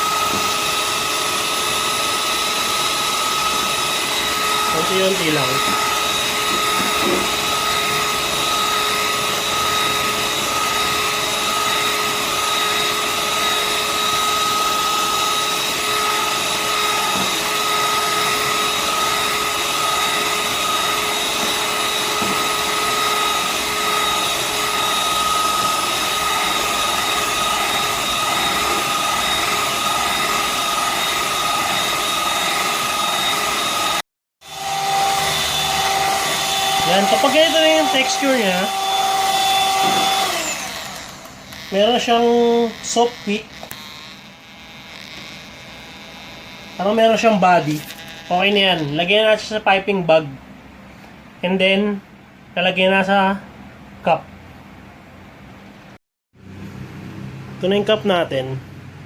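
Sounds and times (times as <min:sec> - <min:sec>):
electric mixer whining: 0:00.0 - 0:49.7.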